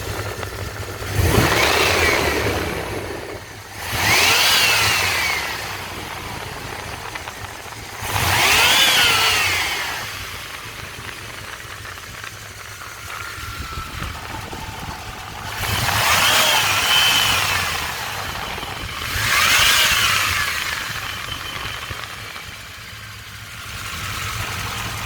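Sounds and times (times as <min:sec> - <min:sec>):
car engine idling and revving: 0:00.0 - 0:25.0
engine ticking: 0:00.0 - 0:25.0.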